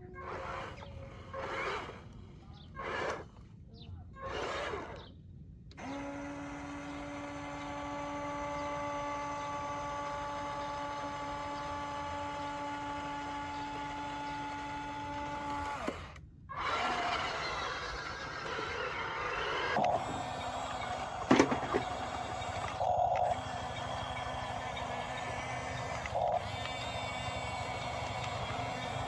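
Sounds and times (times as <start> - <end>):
small electric motor whine: 0.0 - 3.5, 4.2 - 5.1, 5.7 - 29.0
rough mechanical noise: 0.0 - 3.6, 4.2 - 5.1, 5.7 - 29.0.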